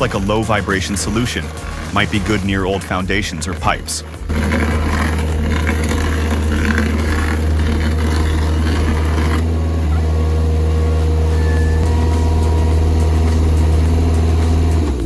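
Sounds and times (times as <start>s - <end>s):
diesel engine humming: 0.0s - 15.0s
rough grinding noise: 0.0s - 15.0s.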